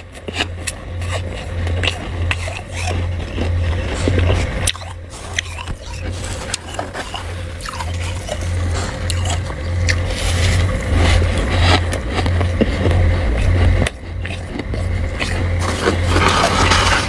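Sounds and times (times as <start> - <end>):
frost crunching and crackling: 0.0 - 17.0
steady low hum: 0.0 - 17.0.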